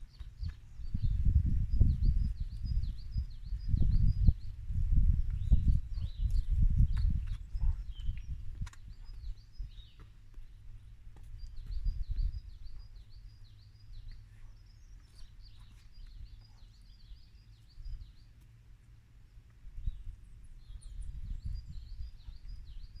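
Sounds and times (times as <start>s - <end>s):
low rumble on microphone: 0.0s - 18.4s, 19.6s - 23.0s
songbird chirping: 0.0s - 23.0s.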